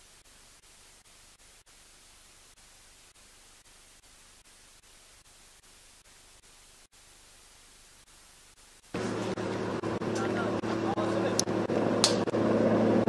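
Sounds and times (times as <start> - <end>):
faint recording hiss: 0.0 - 10.6.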